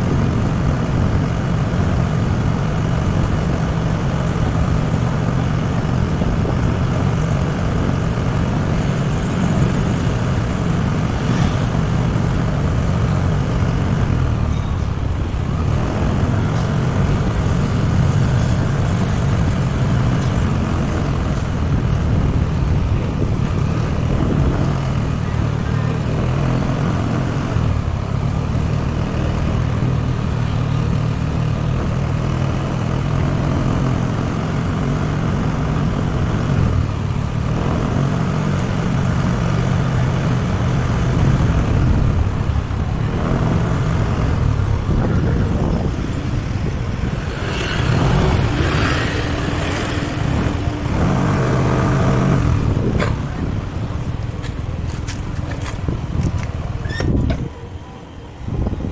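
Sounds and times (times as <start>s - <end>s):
motorbike engine running: 0.0s - 57.7s
road noise: 0.0s - 58.9s
wind: 0.0s - 58.9s.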